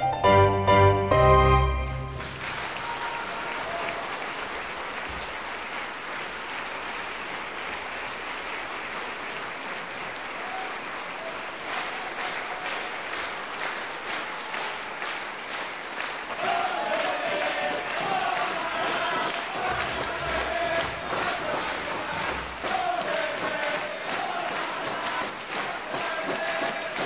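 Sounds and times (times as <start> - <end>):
audience applauding: 1.7 - 27.0.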